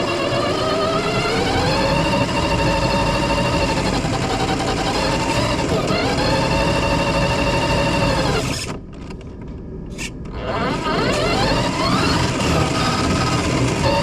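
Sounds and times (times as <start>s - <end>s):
drone motors whining: 0.0s - 9.2s, 9.9s - 14.0s.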